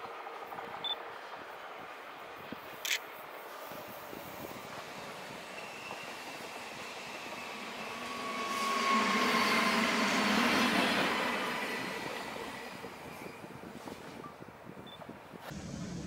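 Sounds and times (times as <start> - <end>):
electric train passing: 0.0 - 14.7, 15.5 - 16.0.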